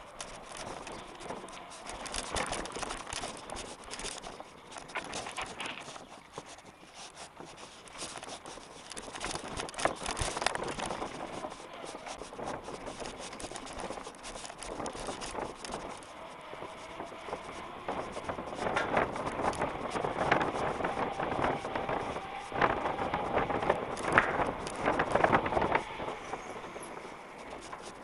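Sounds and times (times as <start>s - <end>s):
bike tyres rumbling on stone: 0.0s - 6.5s, 7.4s - 28.0s
bike rattling and clattering: 0.0s - 28.0s.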